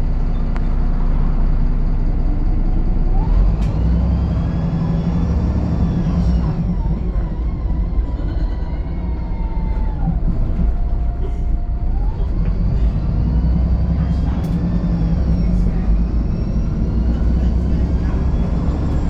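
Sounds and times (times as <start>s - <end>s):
bus engine rumble and whine: 0.0s - 19.0s.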